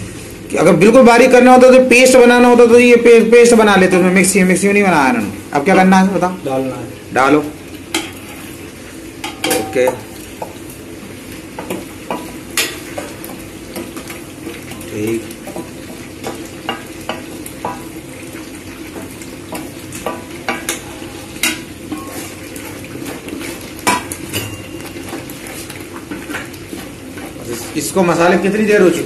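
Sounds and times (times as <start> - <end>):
gravy sizzling: 0.0 - 29.0.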